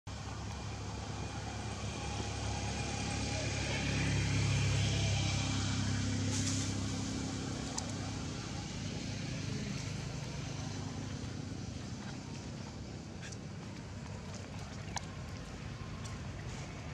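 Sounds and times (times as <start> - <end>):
vehicle engine humming: 0.1 - 16.9.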